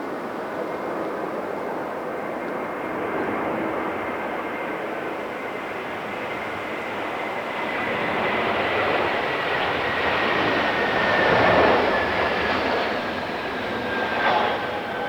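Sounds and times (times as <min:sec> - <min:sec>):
jet engines rushing with whine: 0:00.0 - 0:15.0.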